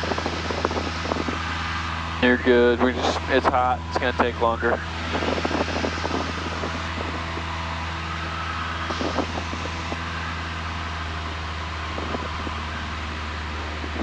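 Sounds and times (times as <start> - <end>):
airplane engine and propeller drone: 0.0 - 14.0.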